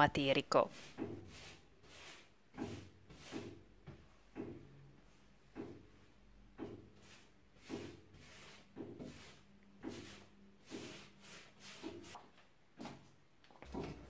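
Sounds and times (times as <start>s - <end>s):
paintbrush swishing on a wall: 0.6s - 13.1s.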